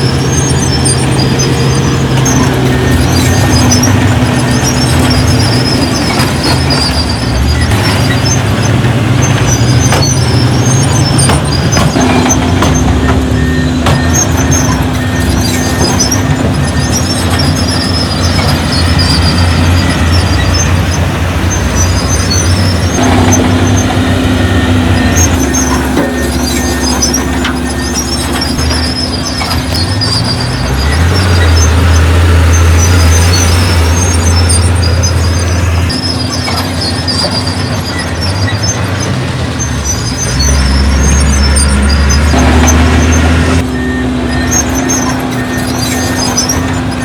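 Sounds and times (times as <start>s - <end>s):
heavy diesel engine under load: 0.0s - 47.0s
metallic clanks and knocks: 0.0s - 47.0s.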